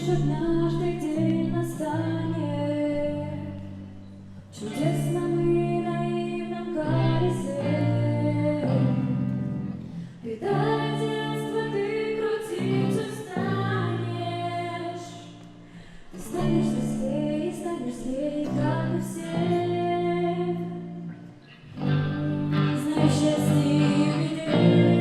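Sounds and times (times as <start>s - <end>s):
woman singing: 0.0s - 21.5s, 22.4s - 25.0s.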